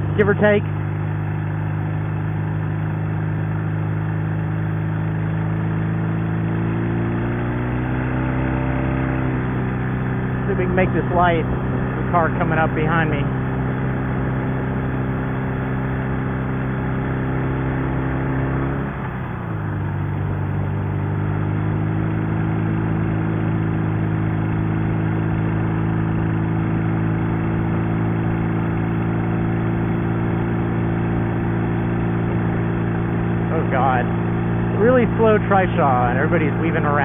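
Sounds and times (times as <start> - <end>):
motorcycle engine shifting up: 0.0 - 37.0.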